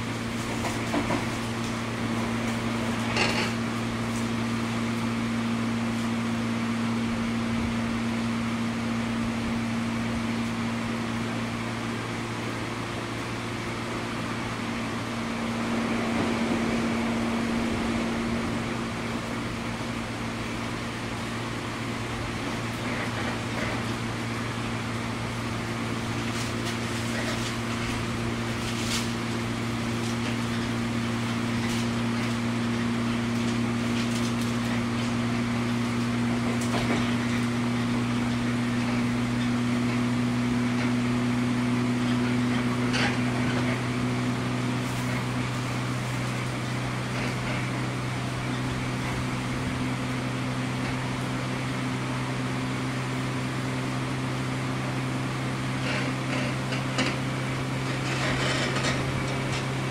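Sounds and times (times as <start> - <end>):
train rolling noise: 0.0 - 5.2, 7.4 - 53.2, 55.8 - 59.9
train motor and gear hum: 0.0 - 59.9.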